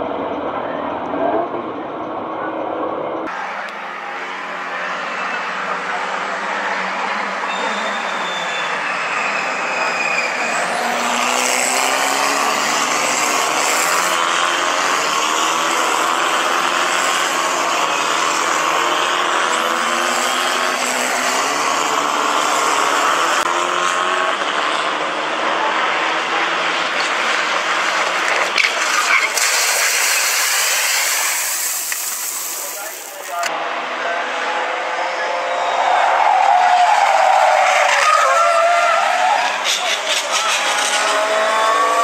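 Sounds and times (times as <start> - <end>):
race car engines accelerating: 0.0 - 42.0.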